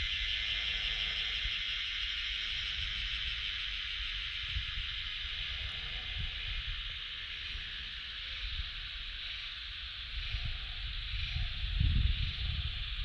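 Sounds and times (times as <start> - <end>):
cicadas singing: 0.0 - 13.0.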